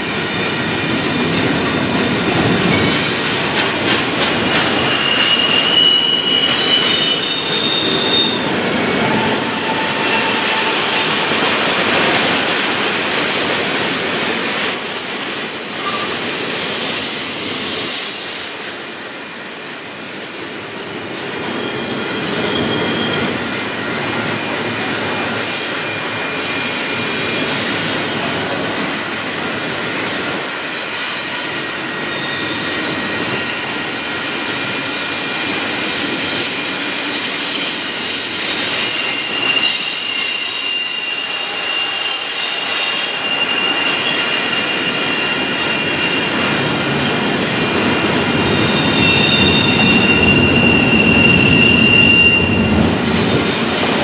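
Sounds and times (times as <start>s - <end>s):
high wheel squeals: 0.0s - 3.3s, 4.7s - 11.4s, 14.6s - 19.1s, 21.6s - 23.5s, 25.4s - 30.6s, 31.4s - 54.0s
train wheels rolling on rail: 0.0s - 54.0s.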